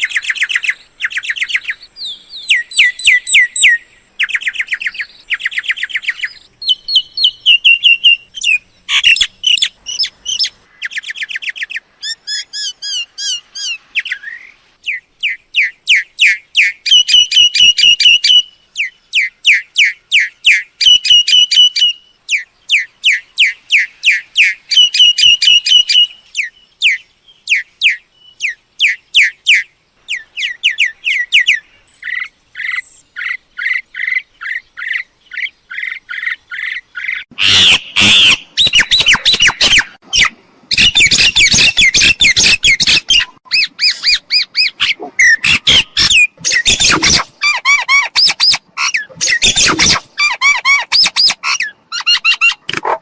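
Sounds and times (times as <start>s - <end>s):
birds calling and squawking: 0.0s - 53.0s.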